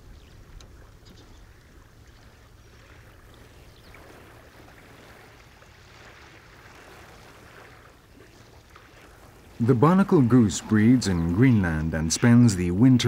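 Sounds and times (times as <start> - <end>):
faint water ambience: 0.0 - 13.0.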